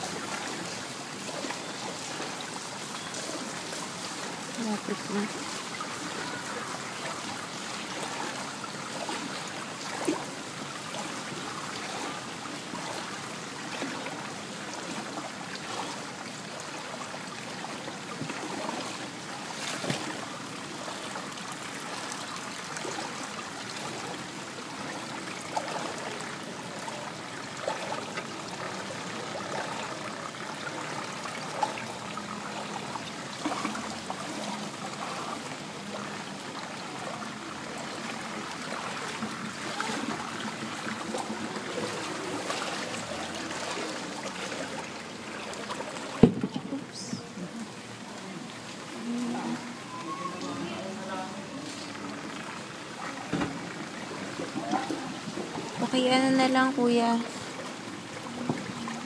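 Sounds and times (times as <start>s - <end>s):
sharp water splashes: 0.0s - 47.4s
floodwater rushing: 0.0s - 59.0s.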